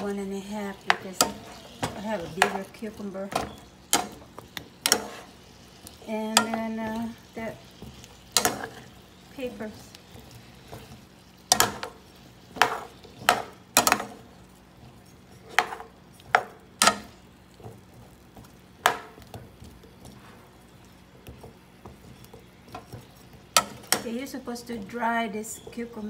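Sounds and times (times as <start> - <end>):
spatula stirring cucumbers in a pan: 0.0 - 26.0.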